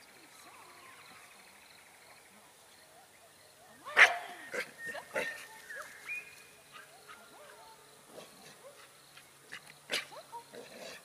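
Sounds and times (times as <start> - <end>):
birds chirping: 0.0 - 10.6
faint insect drone: 0.0 - 11.0.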